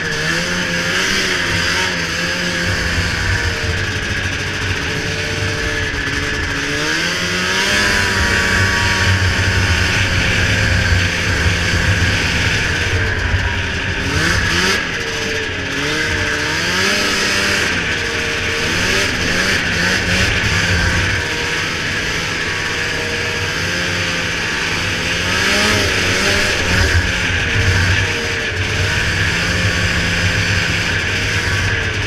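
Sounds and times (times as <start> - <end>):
snowmobile engine revving: 0.0 - 32.0
snowmobile track noise: 0.0 - 32.0
wind noise: 0.0 - 32.0.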